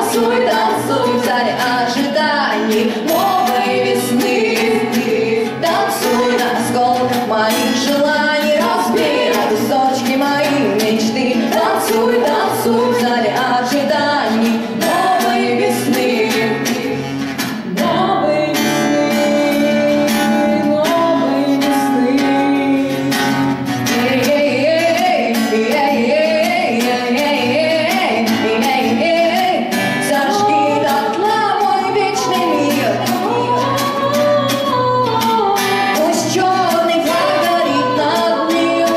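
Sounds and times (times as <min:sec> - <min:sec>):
strummed acoustic guitar: 0:00.0 - 0:38.9
woman singing: 0:00.0 - 0:38.9.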